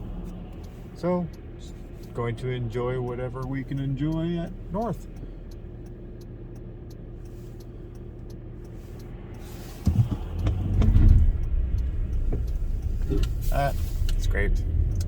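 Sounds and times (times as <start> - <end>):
car engine humming: 0.0 - 15.0
engine rumble with knocks: 0.0 - 15.0.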